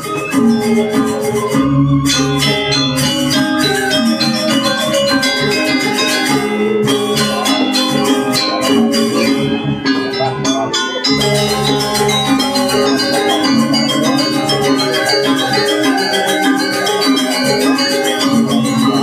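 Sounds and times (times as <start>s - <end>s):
metallophones playing fast runs: 0.0s - 19.0s.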